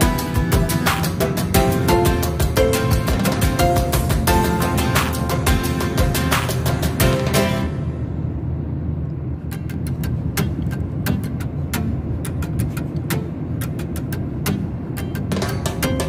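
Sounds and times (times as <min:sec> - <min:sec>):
car road rumble inside cabin: 0:00.0 - 0:16.0.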